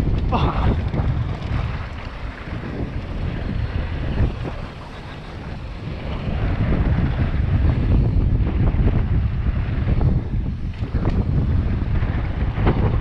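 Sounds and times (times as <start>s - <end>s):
bike knocking and rattling: 0.0s - 13.0s
wind buffeting microphone: 0.0s - 13.0s.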